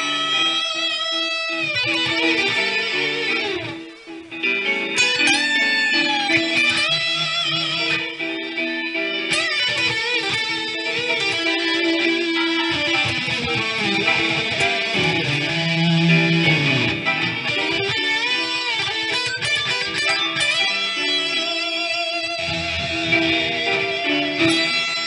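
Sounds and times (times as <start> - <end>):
electric guitar with vibrato: 0.0 - 25.0.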